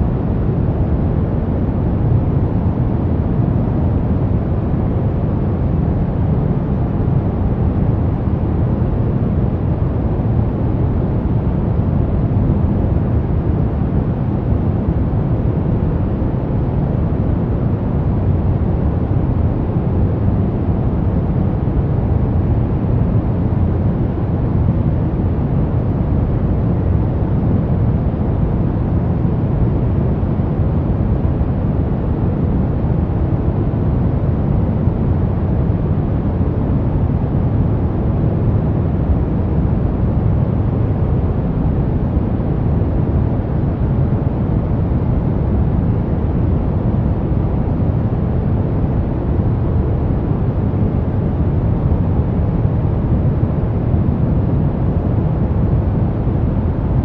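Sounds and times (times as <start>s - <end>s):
deep rumbling brown noise: 0.0s - 57.0s.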